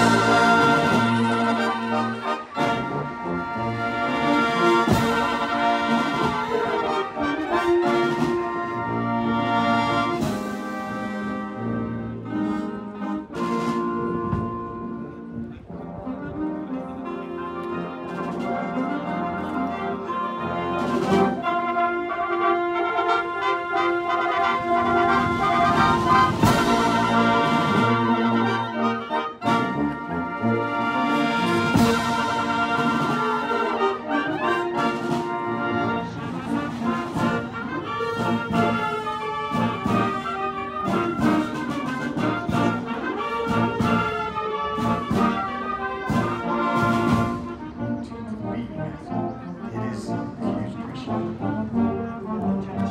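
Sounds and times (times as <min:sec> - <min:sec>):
brass band playing a fanfare: 0:00.0 - 0:52.9.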